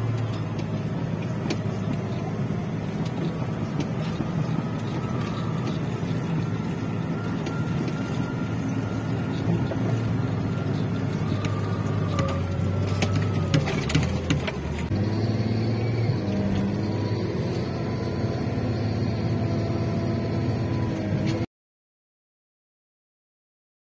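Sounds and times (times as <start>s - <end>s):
vehicle engine humming: 0.0s - 21.5s.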